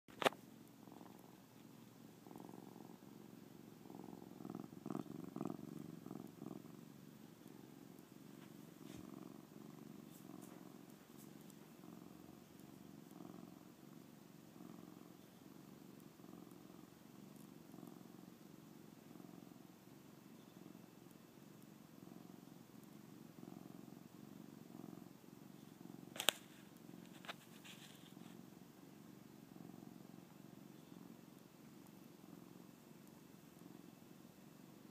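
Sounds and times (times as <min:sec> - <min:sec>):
cat purring: 0:00.1 - 0:34.9.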